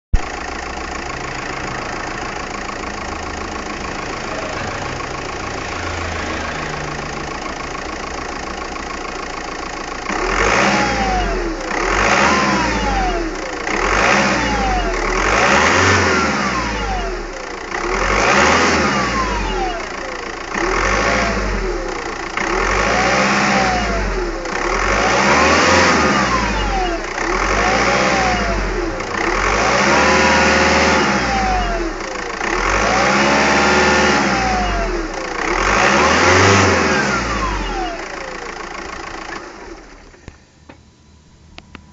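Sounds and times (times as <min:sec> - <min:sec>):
car engine idling and revving: 0:00.1 - 0:41.9.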